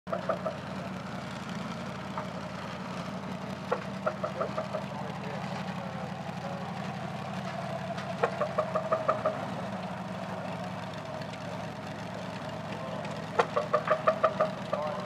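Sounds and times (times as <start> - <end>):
tractor engine running at low revs: 0.1 - 15.0.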